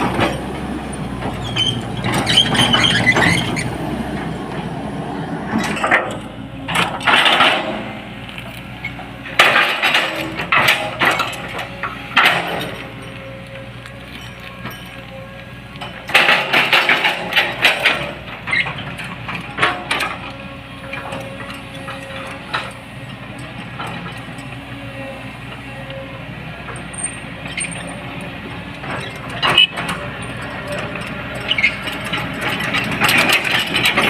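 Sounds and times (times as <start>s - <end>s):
excavator engine running: 0.0s - 34.0s.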